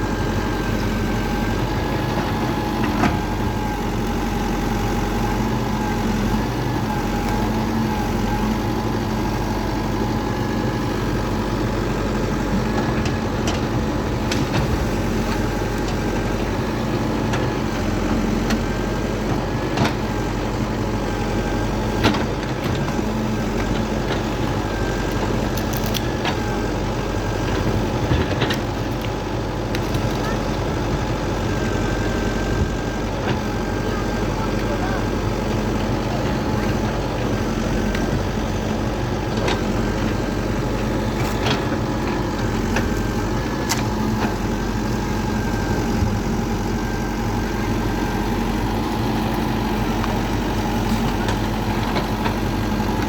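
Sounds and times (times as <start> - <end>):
machine humming and whining: 0.0 - 53.0.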